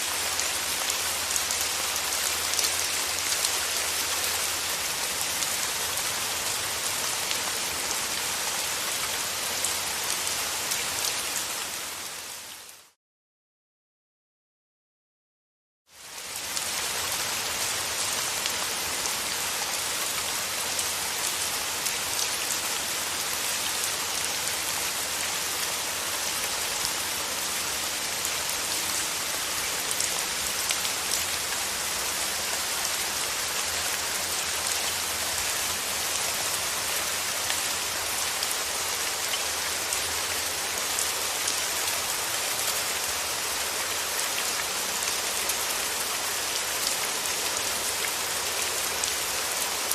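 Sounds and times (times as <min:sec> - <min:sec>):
steady rain falling: 0:00.0 - 0:13.0, 0:15.9 - 0:49.9.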